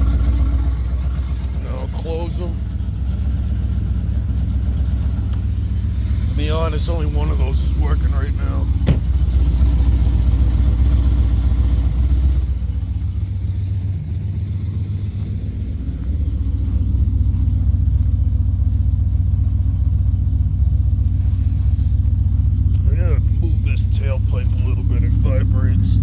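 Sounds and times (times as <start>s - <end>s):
pickup truck engine idling: 0.0s - 26.0s.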